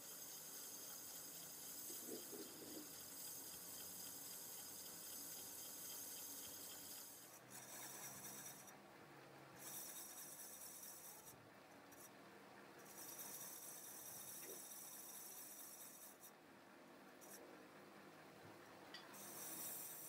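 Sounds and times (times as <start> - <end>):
faint high-pitched hiss: 0.0 - 20.0.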